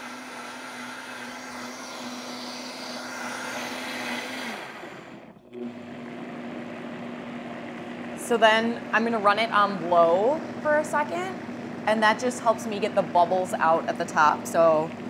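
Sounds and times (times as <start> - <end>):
blender motor running: 0.0 - 15.0.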